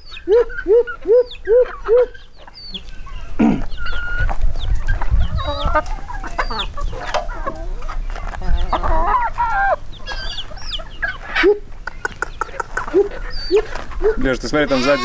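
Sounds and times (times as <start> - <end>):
chickens clucking and squawking: 0.0 - 15.0.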